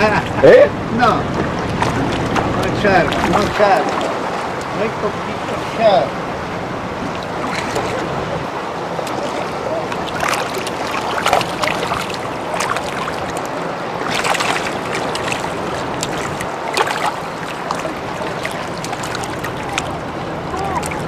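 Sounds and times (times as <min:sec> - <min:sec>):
steady rushing noise: 0:00.0 - 0:21.0
water splashing against a boat: 0:00.0 - 0:21.0.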